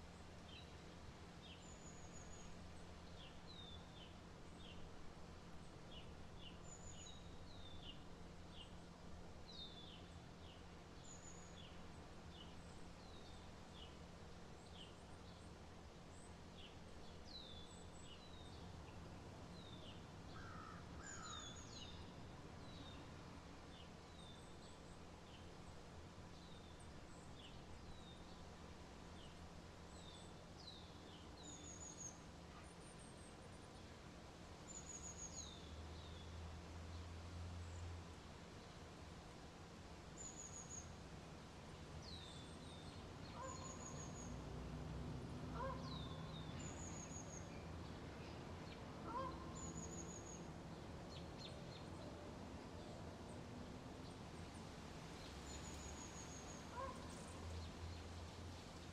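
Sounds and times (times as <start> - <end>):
faint birds chirping: 0.0 - 41.1, 41.7 - 44.6, 45.6 - 58.9.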